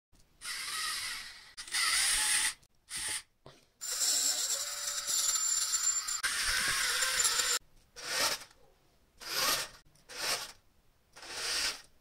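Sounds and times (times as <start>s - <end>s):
small gear motors whirring: 0.4s - 8.5s, 9.2s - 10.6s, 11.2s - 11.9s.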